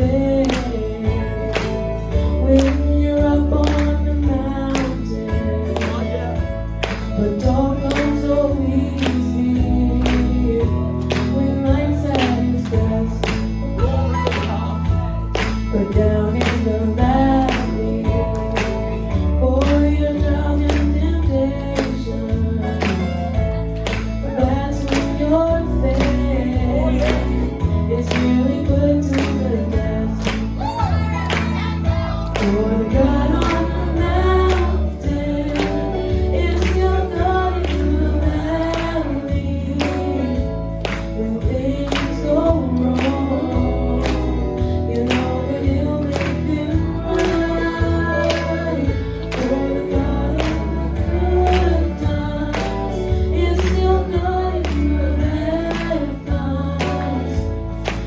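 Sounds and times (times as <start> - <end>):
band with bass and drums: 0.0 - 58.0
gospel group singing: 0.0 - 58.0.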